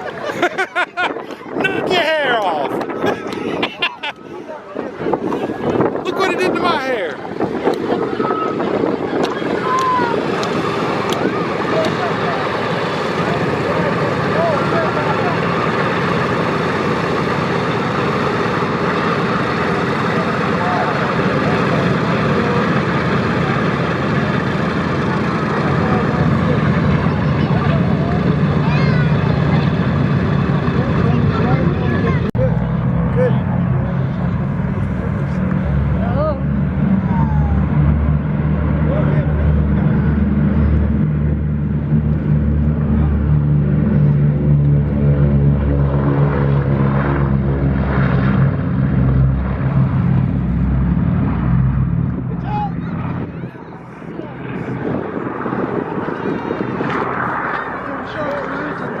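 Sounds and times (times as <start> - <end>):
aircraft radial engines running: 0.0 - 59.0.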